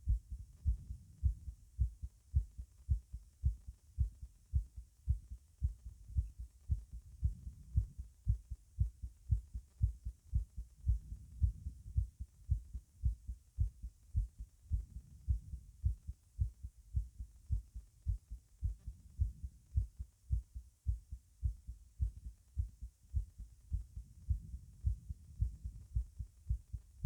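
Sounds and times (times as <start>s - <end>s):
heartbeat thumps: 0.0s - 27.0s.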